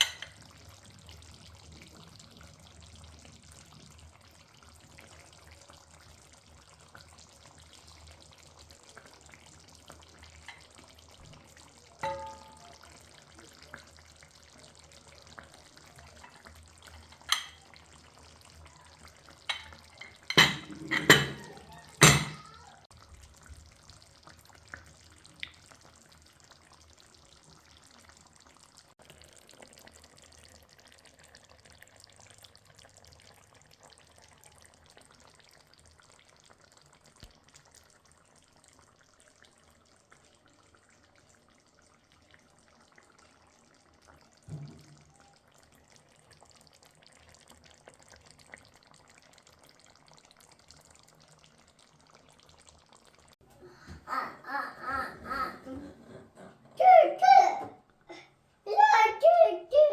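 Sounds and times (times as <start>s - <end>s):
frying sizzle: 0.0s - 54.2s.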